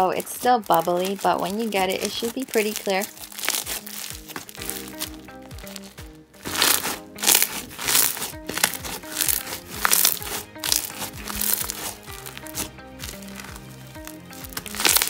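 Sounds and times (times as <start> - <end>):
background music: 0.0 - 15.0
slime crackling and popping: 0.0 - 15.0.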